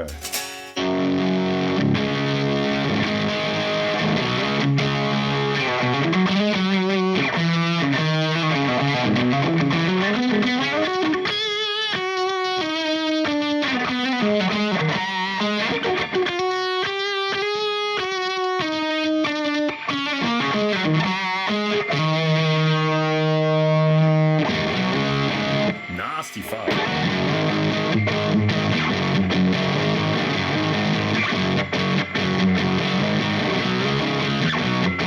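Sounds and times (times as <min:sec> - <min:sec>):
fuzz electric guitar riff: 0:00.0 - 0:11.1, 0:17.4 - 0:35.0.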